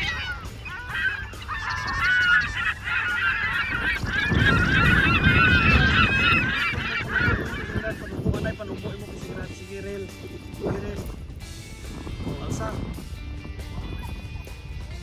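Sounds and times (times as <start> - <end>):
birds honking: 0.0 - 15.0.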